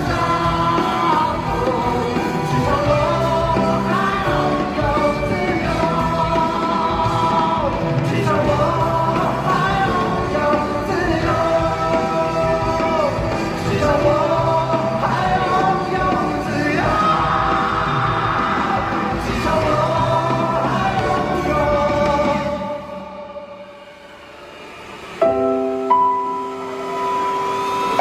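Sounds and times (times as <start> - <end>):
pop-rock band playing: 0.0 - 28.0.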